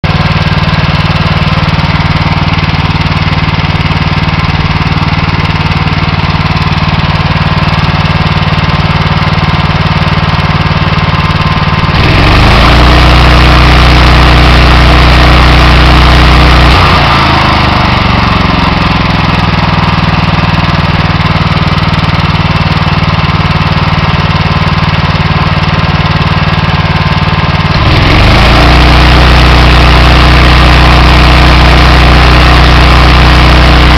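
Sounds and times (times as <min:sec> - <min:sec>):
pressure washer engine running: 0:00.0 - 0:33.9.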